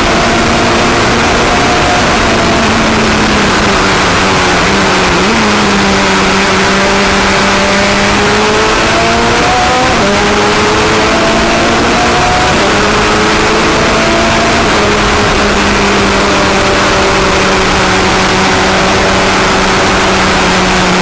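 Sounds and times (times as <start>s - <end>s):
racing car engine at speed: 0.0s - 21.0s
road noise: 0.0s - 21.0s
wind noise: 0.0s - 21.0s.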